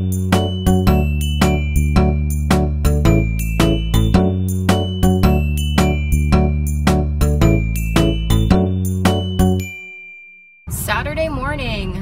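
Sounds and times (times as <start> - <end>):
background music with steady beat: 0.0 - 10.2.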